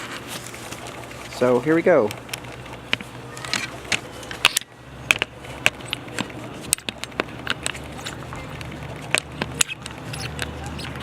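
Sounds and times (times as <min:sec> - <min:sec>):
sharp clicks and taps: 0:02.0 - 0:11.0.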